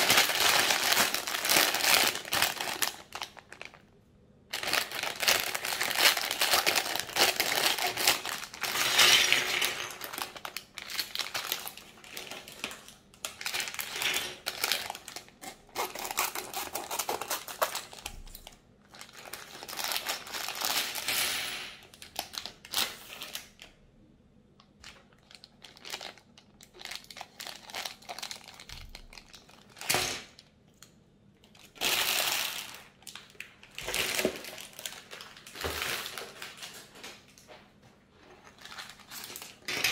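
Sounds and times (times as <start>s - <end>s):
plastic bags crinkling: 0.0s - 21.2s, 21.8s - 23.7s, 24.8s - 30.4s, 31.4s - 39.9s.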